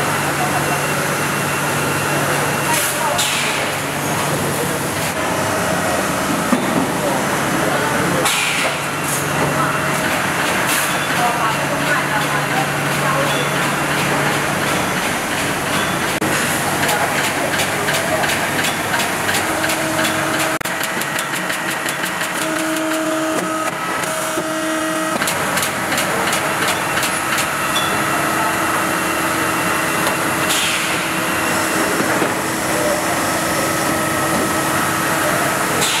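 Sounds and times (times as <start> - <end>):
machinery mechanical hum: 0.0 - 36.0.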